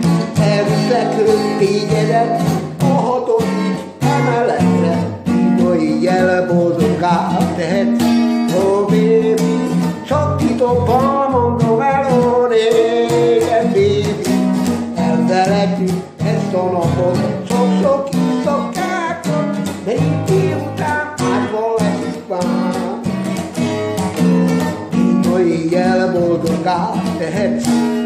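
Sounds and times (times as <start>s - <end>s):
acoustic guitar strumming: 0.0s - 28.0s
man singing: 0.0s - 28.0s.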